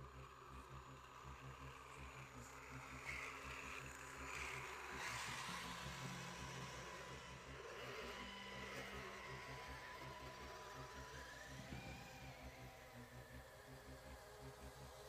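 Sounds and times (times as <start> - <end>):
toy truck electric motor humming: 0.1 - 15.0.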